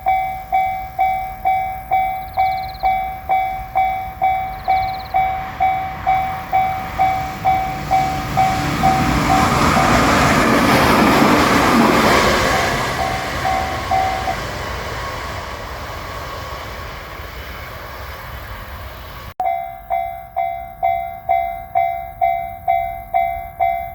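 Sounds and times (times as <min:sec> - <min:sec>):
railroad crossing bell ringing: 0:00.0 - 0:15.3, 0:19.4 - 0:23.9
electric train passing: 0:00.0 - 0:23.9.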